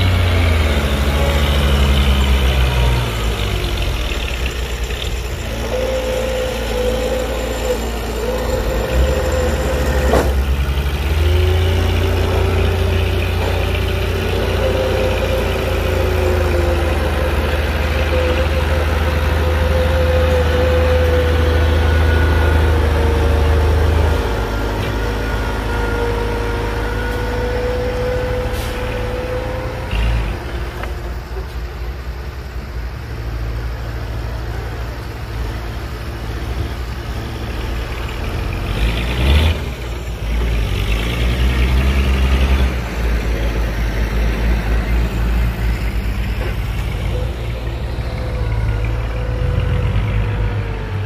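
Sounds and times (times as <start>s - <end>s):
diesel engines running under load: 0.0s - 51.0s.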